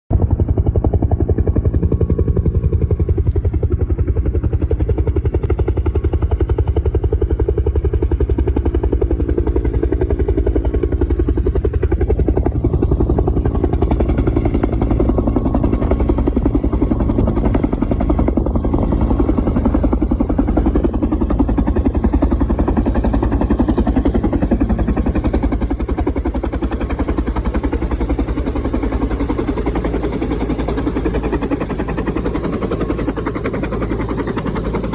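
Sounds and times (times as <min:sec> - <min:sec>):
helicopter rotor chopping: 0:00.1 - 0:34.9.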